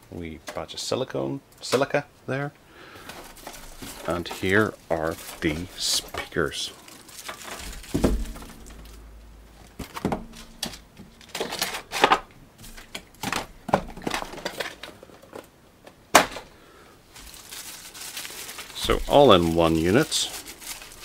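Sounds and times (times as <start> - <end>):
plastic bag rustling and crinkling: 2.9 - 15.5, 16.3 - 21.0.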